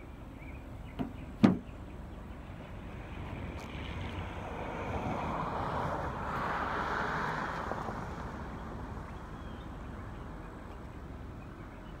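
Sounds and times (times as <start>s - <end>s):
low outdoor background: 0.0s - 12.0s.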